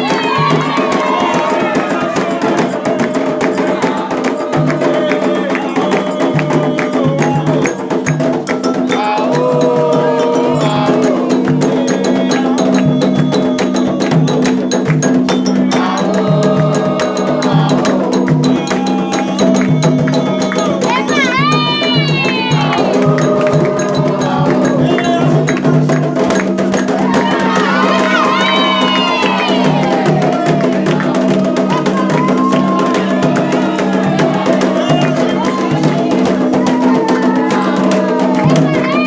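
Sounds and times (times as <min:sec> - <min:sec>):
hand drums: 0:00.0 - 0:39.0
struck percussion instrument: 0:00.0 - 0:39.0
voices chanting: 0:00.0 - 0:39.0.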